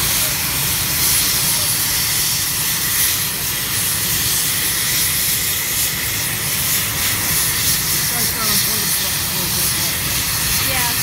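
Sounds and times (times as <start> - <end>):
helicopter engine whine: 0.0 - 11.0
helicopter rotor beat: 0.0 - 11.0.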